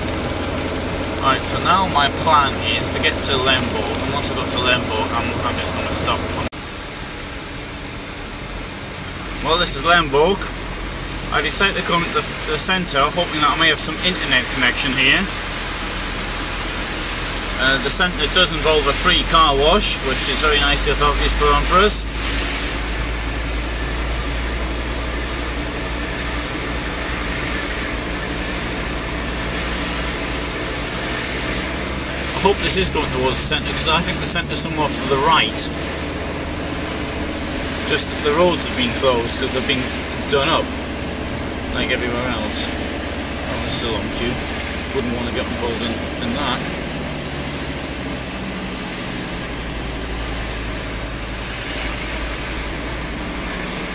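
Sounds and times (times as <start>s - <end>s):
engine low rumble: 0.0s - 53.9s
tyres hissing on wet road: 0.0s - 53.9s.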